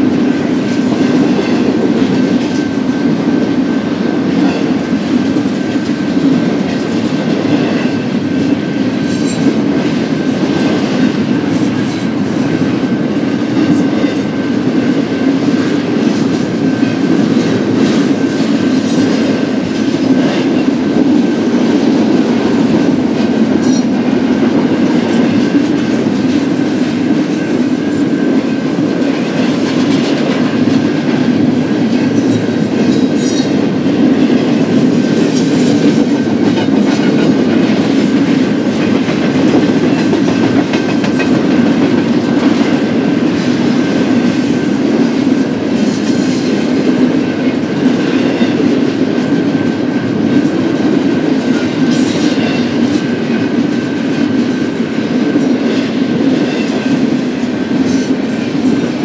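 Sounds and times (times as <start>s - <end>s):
clickety-clack over rail joints: 0.0s - 59.0s
freight train wheels rumbling on rail: 0.0s - 59.0s.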